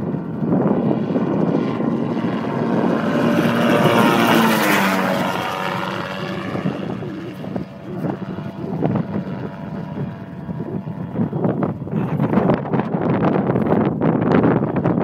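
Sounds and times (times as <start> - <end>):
autogyro engine and propeller drone: 0.0 - 15.0.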